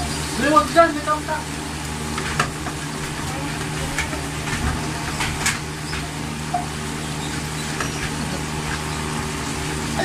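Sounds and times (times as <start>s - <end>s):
pork sizzling on grill: 0.0s - 10.0s.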